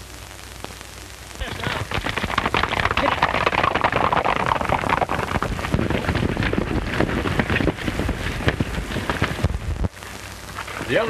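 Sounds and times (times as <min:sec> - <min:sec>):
horses galloping on dirt: 0:01.4 - 0:11.0.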